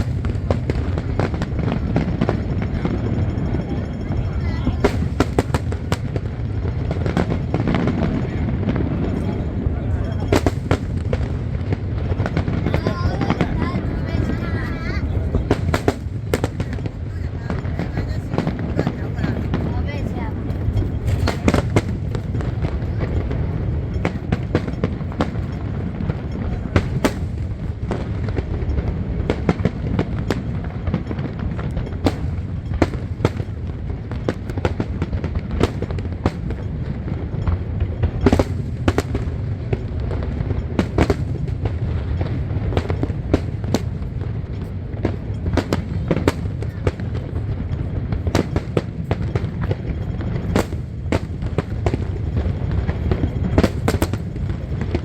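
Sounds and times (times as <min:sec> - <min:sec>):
fireworks bangs and pops: 0:00.0 - 0:55.0
steady low rumble: 0:00.0 - 0:55.0.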